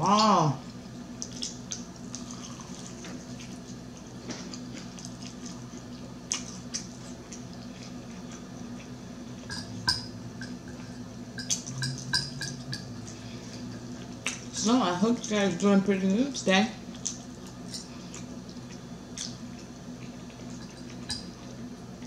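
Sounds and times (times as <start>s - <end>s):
chewing crispy fried chicken: 0.2s - 15.6s, 16.4s - 22.0s.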